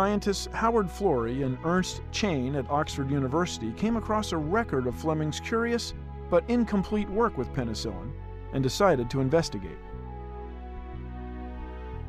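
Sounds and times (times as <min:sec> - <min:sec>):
music of held chords: 0:00.0 - 0:12.0.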